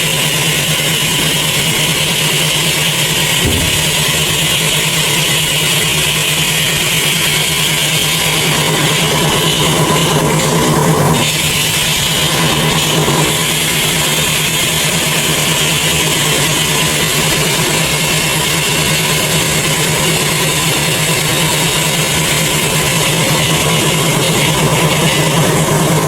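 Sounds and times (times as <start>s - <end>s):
heavy machinery engine drone: 0.0s - 26.0s.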